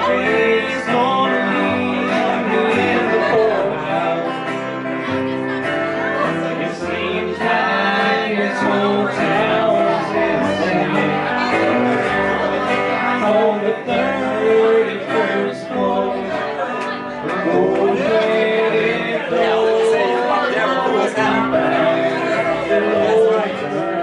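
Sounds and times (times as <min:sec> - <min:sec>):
electric guitar: 0:00.0 - 0:24.0
live country band: 0:00.0 - 0:24.0
upright bass: 0:00.0 - 0:24.0.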